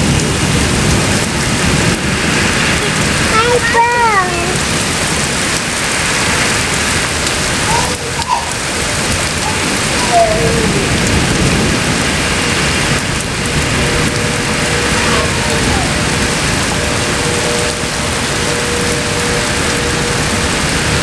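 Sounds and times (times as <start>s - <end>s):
rain pouring: 0.0s - 21.0s.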